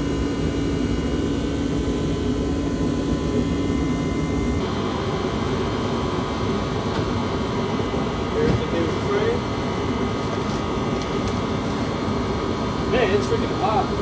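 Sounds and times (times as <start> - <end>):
machine whirring with low hum: 0.0 - 14.0.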